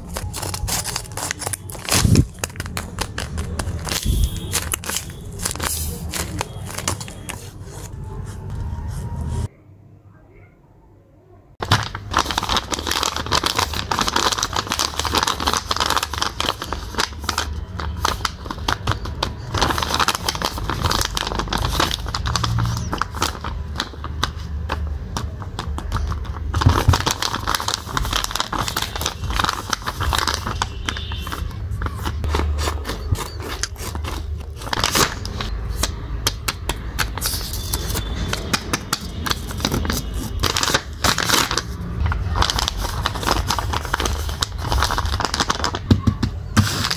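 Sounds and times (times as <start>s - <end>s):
paper rustling and crinkling: 0.0s - 9.5s, 11.6s - 46.9s.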